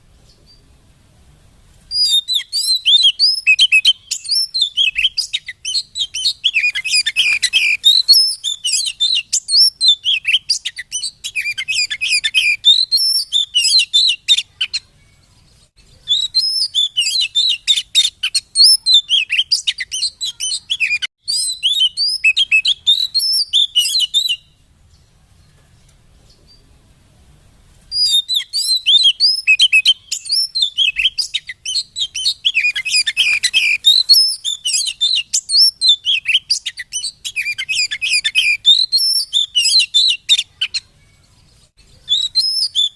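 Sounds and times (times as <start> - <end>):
bird song of high chirps: 0.1 - 0.8, 1.9 - 26.8, 27.9 - 42.9.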